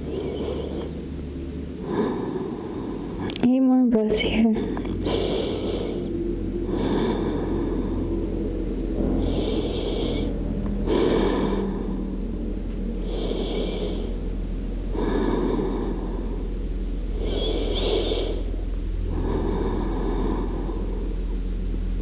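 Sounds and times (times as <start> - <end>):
person breathing deeply: 0.0 - 3.4, 4.6 - 21.7
low hum: 0.0 - 22.0.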